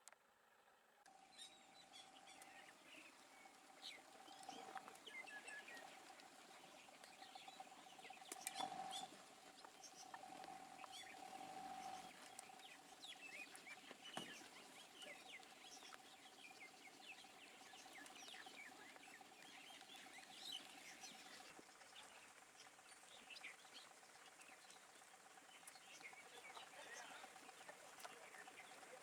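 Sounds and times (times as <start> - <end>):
steady thin hum: 0.2 - 29.0
small birds chirping: 1.1 - 29.0.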